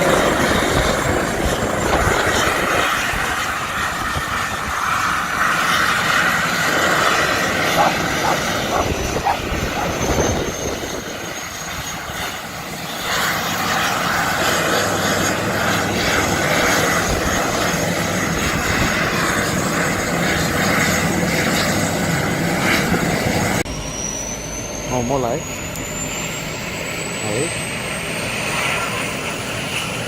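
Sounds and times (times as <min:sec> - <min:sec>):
helicopter rotor and engine: 0:00.0 - 0:30.0
high turbine whine: 0:00.0 - 0:30.0.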